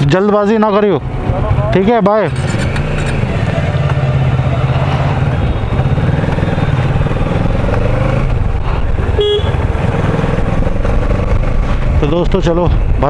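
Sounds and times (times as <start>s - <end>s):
motorcycle engine and road rumble: 0.0s - 13.0s.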